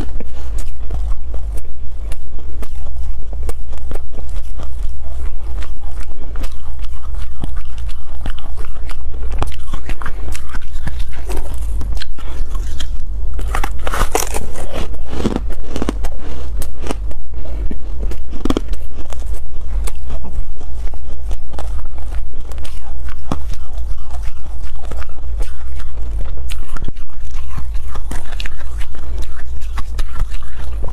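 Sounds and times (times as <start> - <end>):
crunching and chewing ice: 0.0 - 30.9
steady low hum: 0.0 - 30.9.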